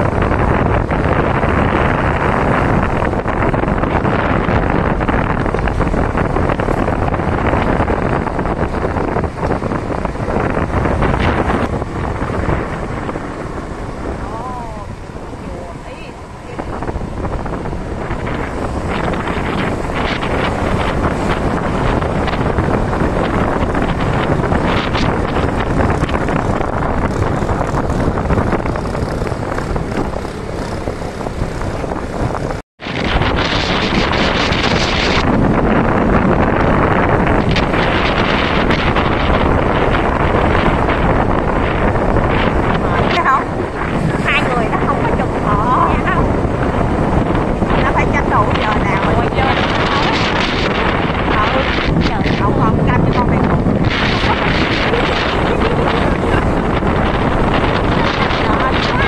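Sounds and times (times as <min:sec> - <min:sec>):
motorbike engine: 0:00.0 - 0:59.0
wind buffeting on microphone: 0:00.0 - 0:59.0.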